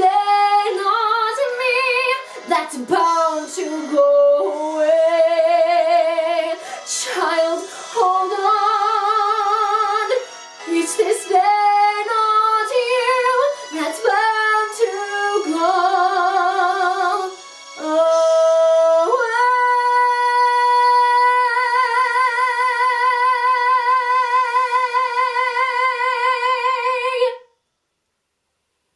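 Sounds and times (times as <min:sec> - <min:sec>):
woman singing with vibrato: 0:00.0 - 0:27.5.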